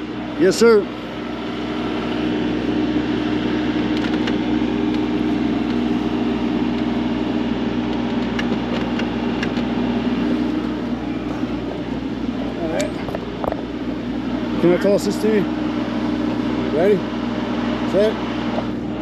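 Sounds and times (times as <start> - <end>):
construction machine engine running: 0.0 - 19.0.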